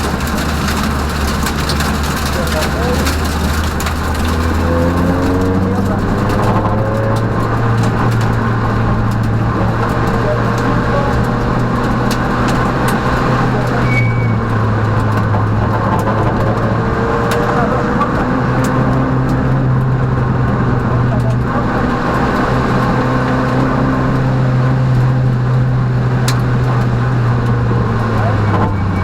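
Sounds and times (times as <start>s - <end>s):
car engine from inside cabin: 0.0s - 29.0s
road noise: 0.0s - 29.0s.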